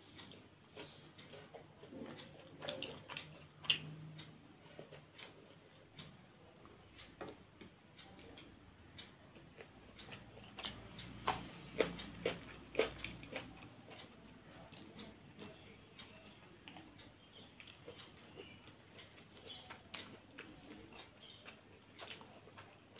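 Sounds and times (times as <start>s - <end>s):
person chewing with wet clicks: 0.1s - 22.9s.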